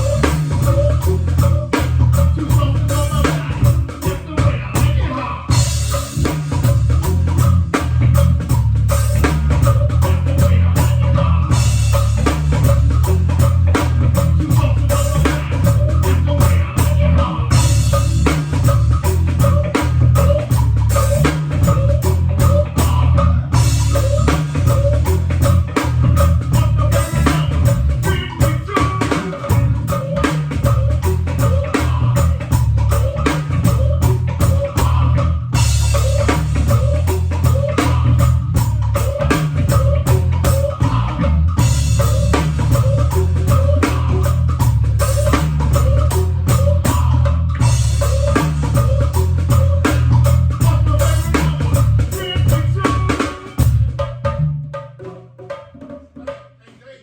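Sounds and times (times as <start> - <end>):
guitar: 0.0 - 54.0
heavy bass: 0.0 - 54.7
drum kit: 0.0 - 56.6
live band instrumental groove: 0.0 - 56.6.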